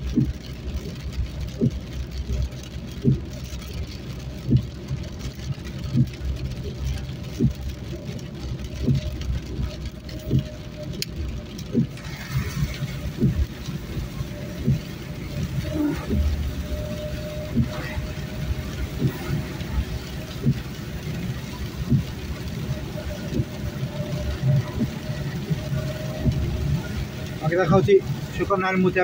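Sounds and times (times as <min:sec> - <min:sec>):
car engine and road rumble: 0:00.0 - 0:29.0
heavy rain on car: 0:00.0 - 0:29.0
windscreen wipers thudding: 0:00.0 - 0:29.0.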